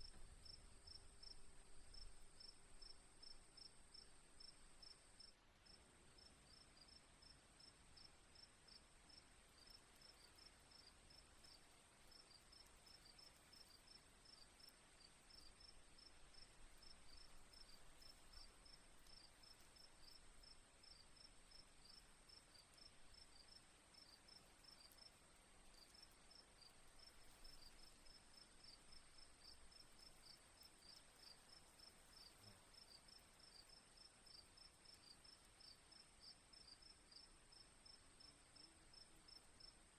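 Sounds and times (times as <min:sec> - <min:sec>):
faint crickets chirping: 0:00.0 - 0:39.9.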